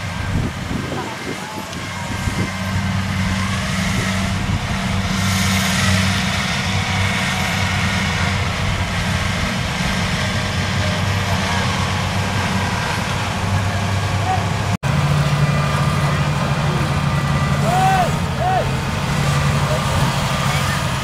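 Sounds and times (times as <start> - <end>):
diesel engine droning: 0.0 - 21.0
machine rushing noise: 0.0 - 21.0.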